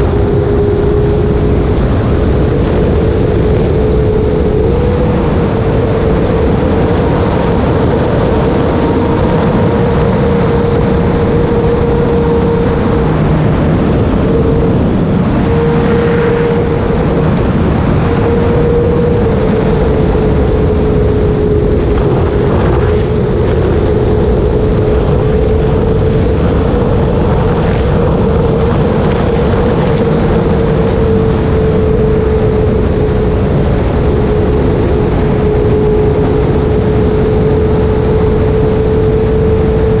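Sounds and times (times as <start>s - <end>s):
electric motor whine: 0.0s - 40.0s
loud rushing noise: 0.0s - 40.0s.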